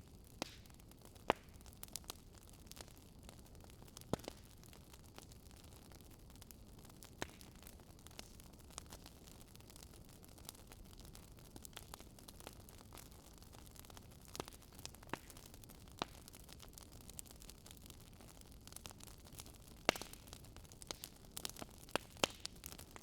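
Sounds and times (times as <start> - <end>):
fire crackling: 0.0 - 23.0.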